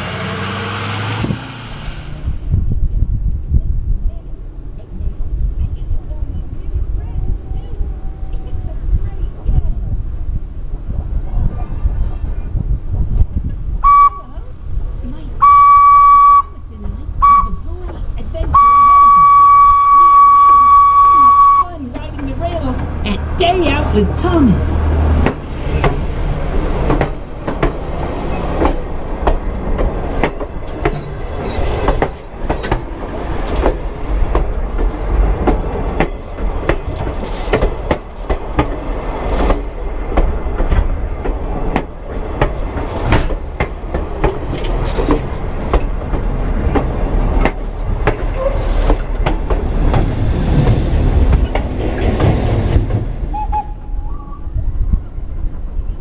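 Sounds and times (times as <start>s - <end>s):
train wheels rumbling on rails: 0.0s - 15.7s, 16.4s - 56.0s.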